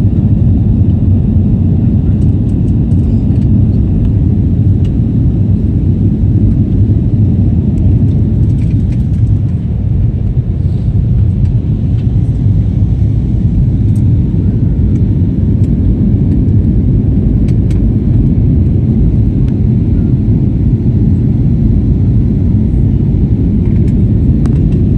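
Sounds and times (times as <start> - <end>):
airliner engine roar: 0.0 - 24.9.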